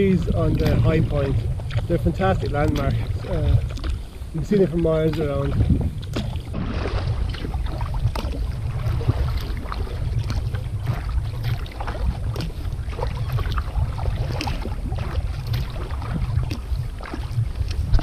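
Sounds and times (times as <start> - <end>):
water splashing around paddle: 0.0 - 18.0
wind rumbling on microphone: 0.0 - 18.0.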